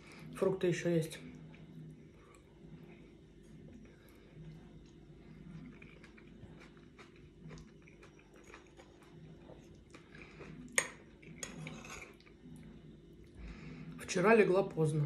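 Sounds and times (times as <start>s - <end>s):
mouth chewing wet fruit: 1.2s - 14.0s.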